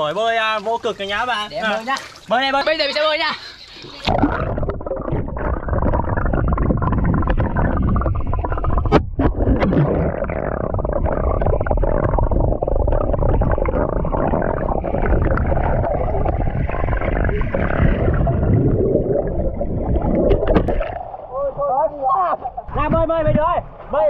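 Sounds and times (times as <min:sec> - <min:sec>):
water churning and splashing: 0:00.0 - 0:24.0.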